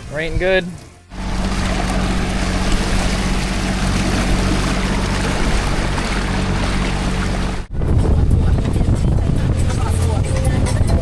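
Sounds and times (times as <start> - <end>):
boat motor humming: 0.0 - 11.0
water rushing: 0.0 - 11.0
wind noise: 2.2 - 11.0.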